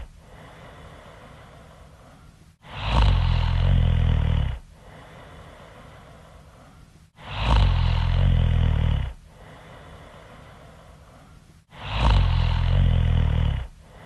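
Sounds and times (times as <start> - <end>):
person snoring: 0.0 - 14.0.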